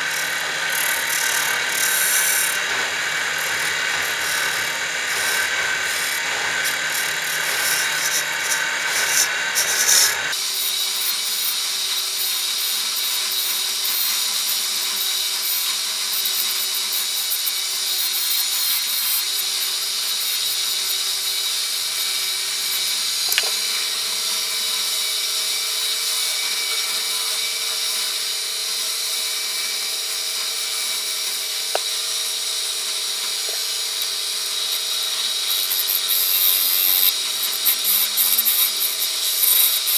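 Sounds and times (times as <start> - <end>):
chisel cutting hiss: 0.0 - 39.9
lathe hum: 0.0 - 39.9.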